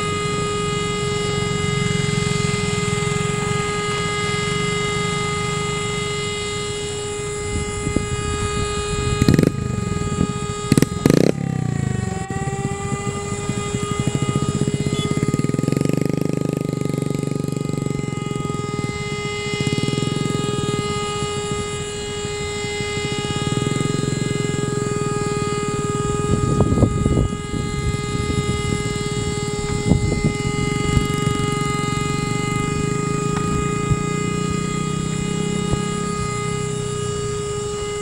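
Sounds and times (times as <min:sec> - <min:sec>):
turboprop aircraft drone: 0:00.0 - 0:38.0.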